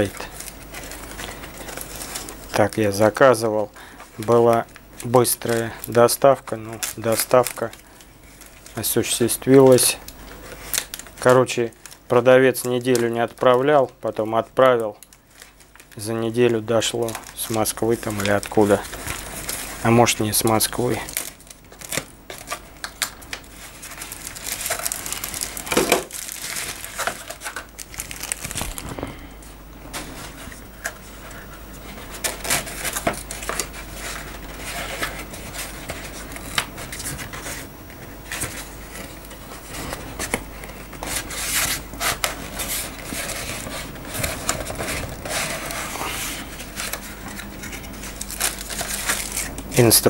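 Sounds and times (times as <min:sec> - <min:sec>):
packaging rustling and crinkling: 0:00.0 - 0:50.0
plastic bag crinkling: 0:00.0 - 0:50.0.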